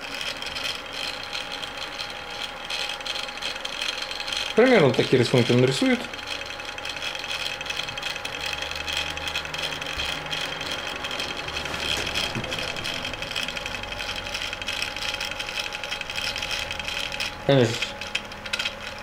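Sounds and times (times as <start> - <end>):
stepper motors ticking buzz: 0.0 - 19.0.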